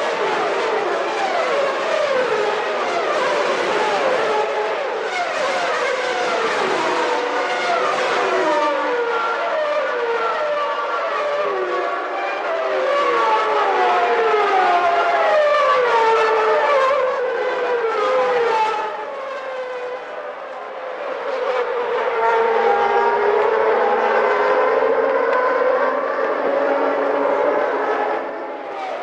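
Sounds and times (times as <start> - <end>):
race car engines revving: 0.0 - 29.0.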